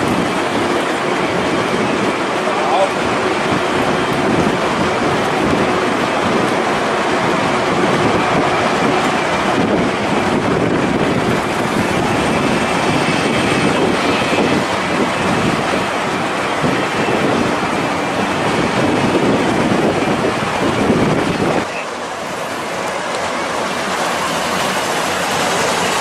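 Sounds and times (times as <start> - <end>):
streetcar running on rails: 0.0 - 26.0.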